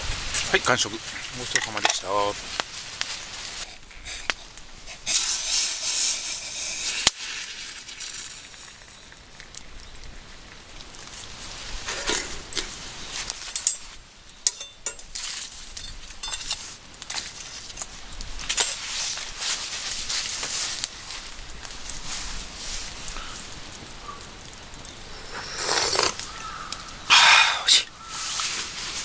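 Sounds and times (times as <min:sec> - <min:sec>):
campfire crackling and popping: 0:00.0 - 0:29.0
fire hissing: 0:00.0 - 0:29.0.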